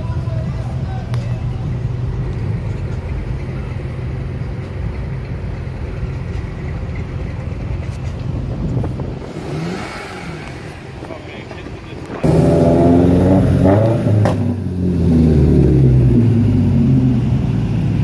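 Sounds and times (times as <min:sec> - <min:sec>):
car engines passing slowly: 0:00.0 - 0:18.0
car accelerating: 0:00.5 - 0:18.0.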